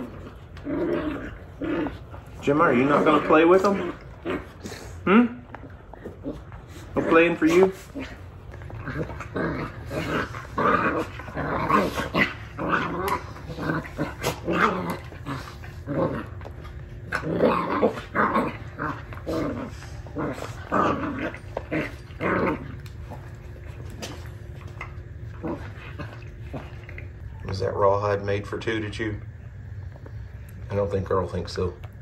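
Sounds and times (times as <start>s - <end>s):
dogs growling while play-fighting: 0.0s - 27.4s.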